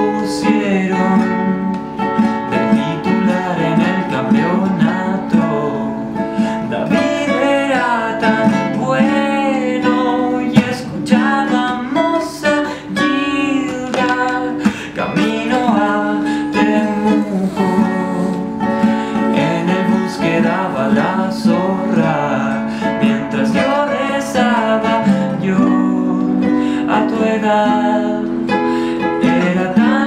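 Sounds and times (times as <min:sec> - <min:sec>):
acoustic guitar strummed chords: 0:00.0 - 0:30.0.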